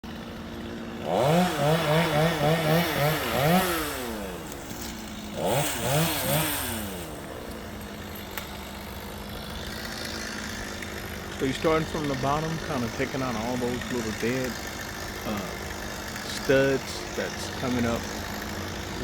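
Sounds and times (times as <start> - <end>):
chainsaw idling and revving: 0.0 - 19.0.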